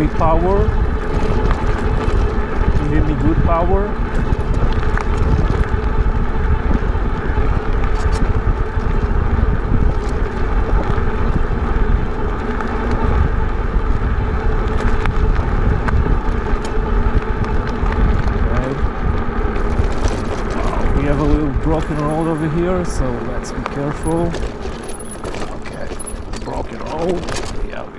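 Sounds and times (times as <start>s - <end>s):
wind buffeting microphone: 0.0s - 27.9s
faint clicks from bike: 0.9s - 3.1s, 4.0s - 27.9s.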